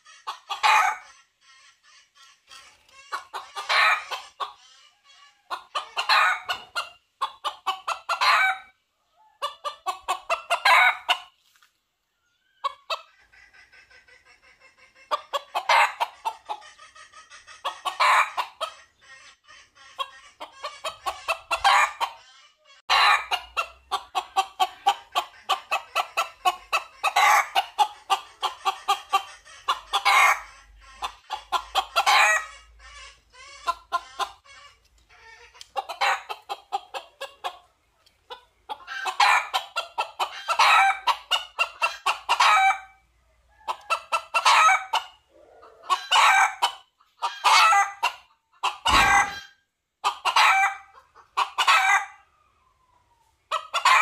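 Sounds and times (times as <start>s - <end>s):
rooster clucking: 0.0s - 11.4s, 12.4s - 54.0s.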